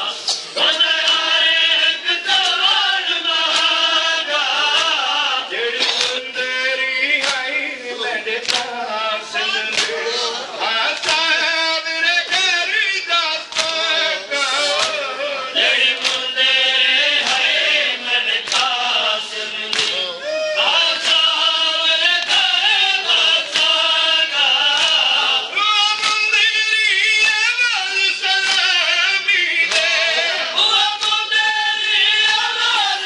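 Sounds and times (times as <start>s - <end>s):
men chanting a lament: 0.0s - 33.0s.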